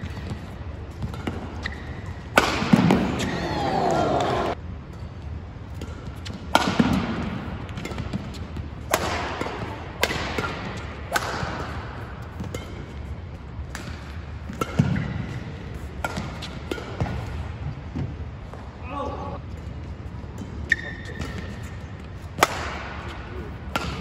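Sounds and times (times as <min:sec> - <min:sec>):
rackets striking shuttlecock: 0:00.0 - 0:17.4, 0:20.4 - 0:24.0.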